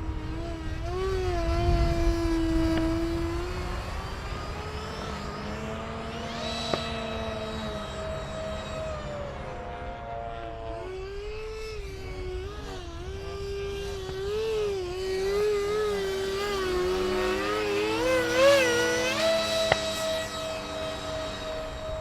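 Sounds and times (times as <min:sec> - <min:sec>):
model jet fan whining: 0:00.0 - 0:22.0.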